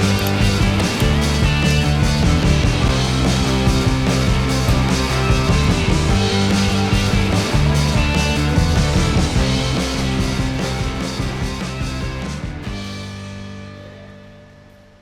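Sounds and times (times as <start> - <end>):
rock music with guitar: 0.0 - 14.7.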